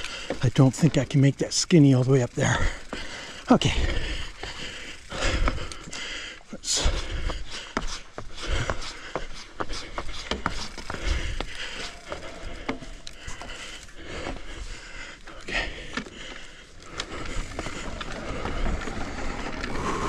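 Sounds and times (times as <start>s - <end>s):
footsteps on wooden planks: 0.0s - 1.3s, 2.4s - 6.1s, 6.7s - 19.0s
pushed bike knocking and scraping: 0.0s - 5.7s, 7.2s - 14.5s, 15.8s - 20.0s.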